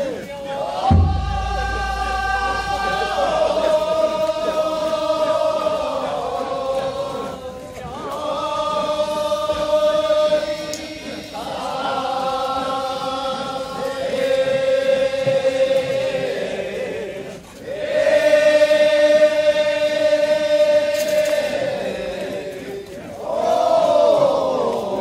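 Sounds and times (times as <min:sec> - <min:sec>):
group of voices chanting: 0:00.0 - 0:25.0.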